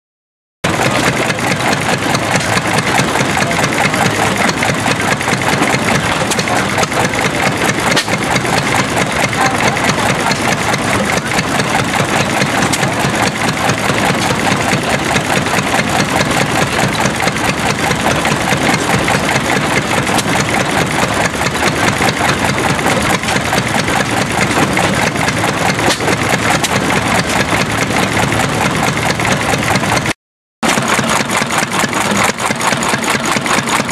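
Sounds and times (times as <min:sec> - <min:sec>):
stationary gas engine running: 0:00.6 - 0:33.9.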